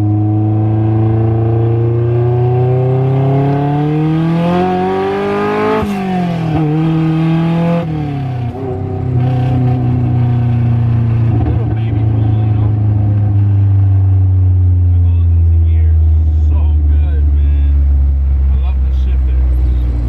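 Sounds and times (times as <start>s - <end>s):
car engine revving through gears: 0.0s - 14.1s, 17.2s - 20.0s.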